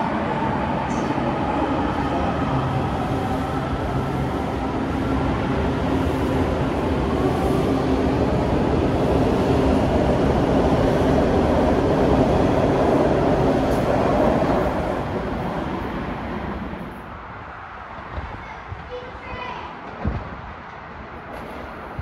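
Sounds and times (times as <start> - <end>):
train hum: 0.0 - 22.0
train rumbling: 0.0 - 22.0.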